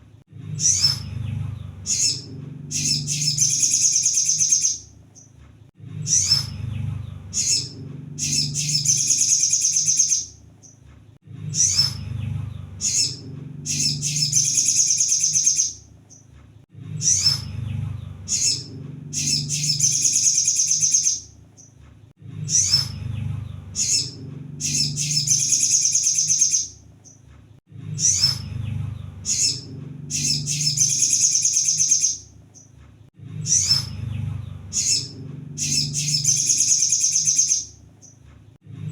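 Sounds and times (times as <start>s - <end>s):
low hum: 0.0s - 38.9s
sunbird twittering trill: 0.6s - 5.3s, 6.1s - 10.8s, 11.6s - 16.3s, 18.1s - 21.8s, 22.5s - 27.2s, 28.0s - 32.7s, 33.5s - 38.2s.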